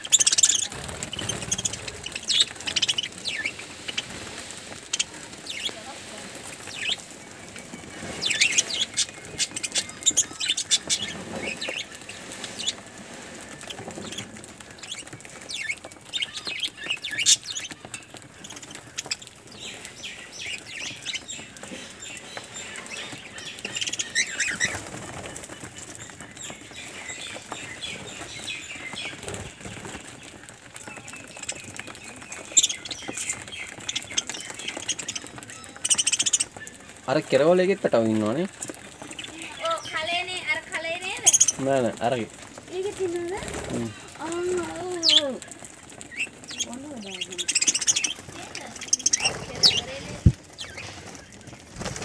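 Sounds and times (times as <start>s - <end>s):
budgerigars chattering: 0.0s - 42.3s, 43.0s - 52.0s
wings fluttering: 0.0s - 52.0s.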